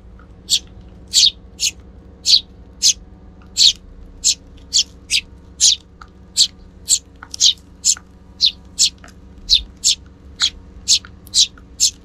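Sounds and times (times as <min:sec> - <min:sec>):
sparrow chirping: 0:00.3 - 0:12.0.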